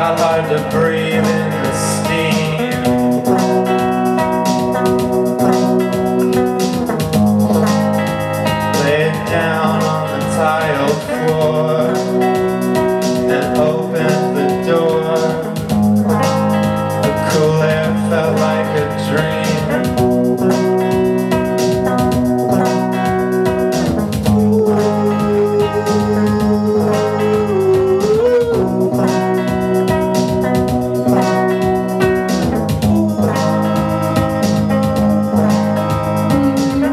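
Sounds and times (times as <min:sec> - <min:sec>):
man singing: 0:00.0 - 0:05.8, 0:08.7 - 0:16.2, 0:17.0 - 0:20.8, 0:24.2 - 0:36.9
electric guitar: 0:00.0 - 0:36.9
steady beat: 0:00.0 - 0:36.9.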